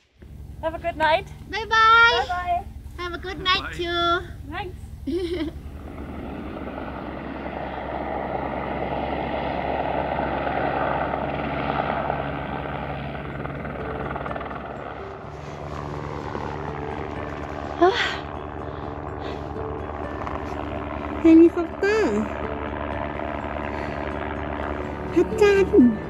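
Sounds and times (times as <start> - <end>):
helicopter rotor beating: 0.0 - 26.0.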